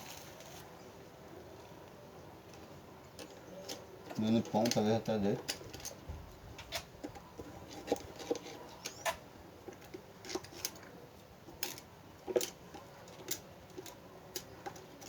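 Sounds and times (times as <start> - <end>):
plastic fan parts clicking: 2.5 - 15.0.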